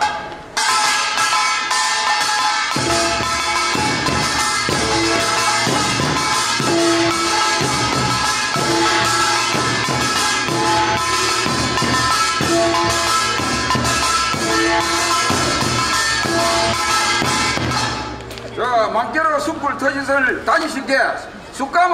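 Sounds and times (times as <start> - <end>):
drums and metal percussion: 0.0 - 18.5.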